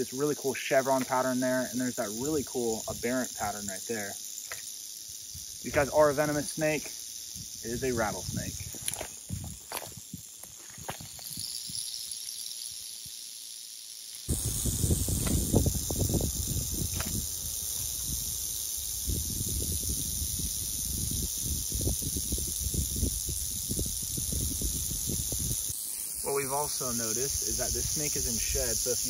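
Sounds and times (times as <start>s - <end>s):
rattlesnake tail rattle buzzing: 0.0s - 29.0s.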